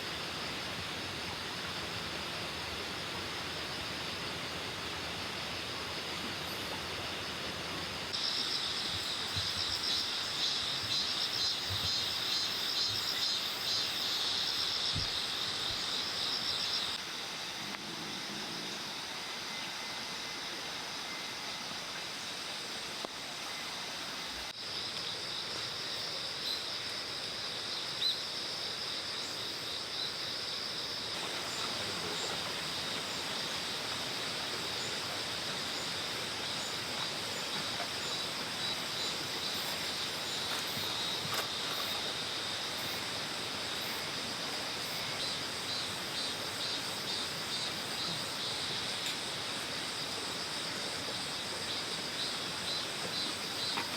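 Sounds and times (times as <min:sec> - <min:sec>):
crickets and insects trilling: 0:00.0 - 0:53.9.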